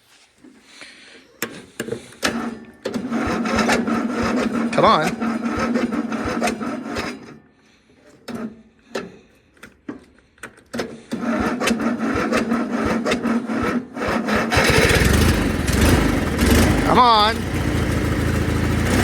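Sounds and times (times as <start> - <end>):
starter cranking lawnmower engine: 0.4 - 19.0.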